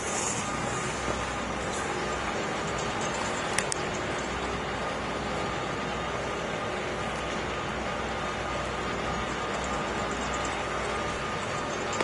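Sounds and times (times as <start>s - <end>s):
faint constant hum: 0.0s - 12.0s
rushing outdoor noise: 0.0s - 12.0s.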